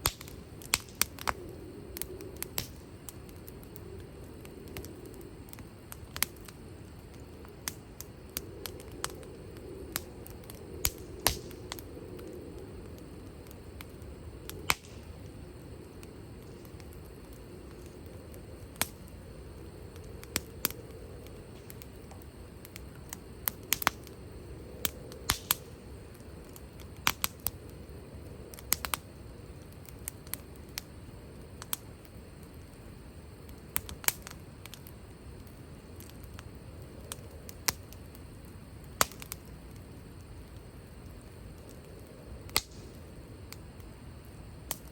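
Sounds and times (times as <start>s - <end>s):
burning wood popping: 0.0s - 44.9s
wood fire crackling: 0.0s - 44.9s.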